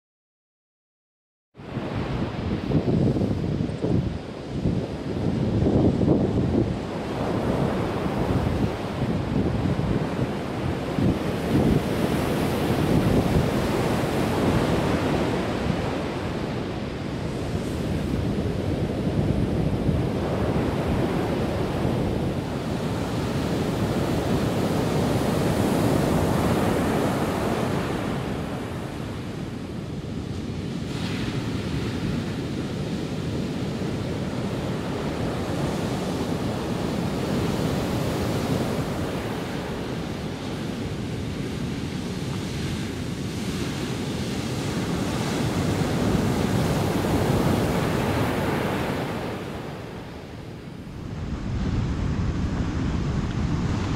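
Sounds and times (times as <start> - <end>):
sea surf breaking on beach: 1.6 - 53.9
wind buffeting microphone: 1.6 - 53.9.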